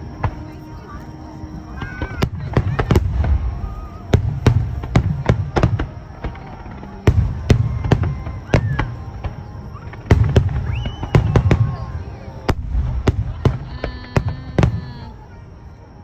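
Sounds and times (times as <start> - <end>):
fireworks bangs: 0.0 - 15.4.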